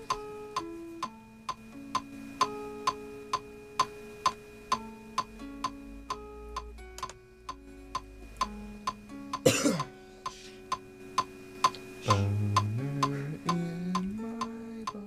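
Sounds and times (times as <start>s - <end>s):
electric guitar lead: 0.0s - 15.0s
metronome click: 0.0s - 15.0s.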